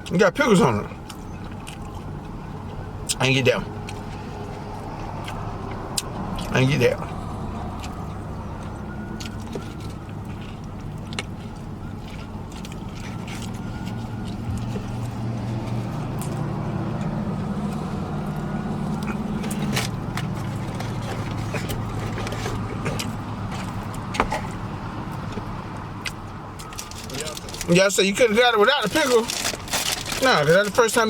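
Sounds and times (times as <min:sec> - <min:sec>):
vehicle engine humming: 0:00.0 - 0:31.0
chewing and lip-smacking: 0:00.9 - 0:27.8.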